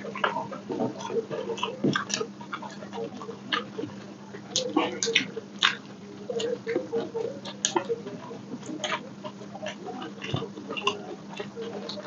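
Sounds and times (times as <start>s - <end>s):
chewing and lip smacking: 0.0s - 12.0s
faint steady hum: 0.0s - 12.0s.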